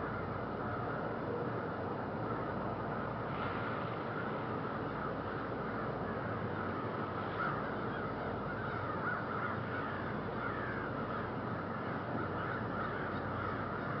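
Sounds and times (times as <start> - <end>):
crows cawing: 0.0 - 3.1, 4.0 - 14.0.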